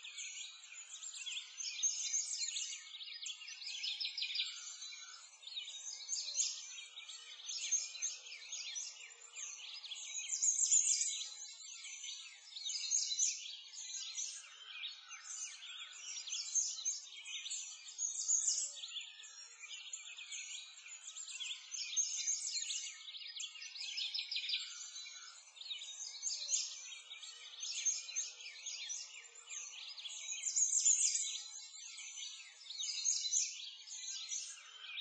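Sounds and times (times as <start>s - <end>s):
birds chirping and twittering: 0.0s - 35.0s.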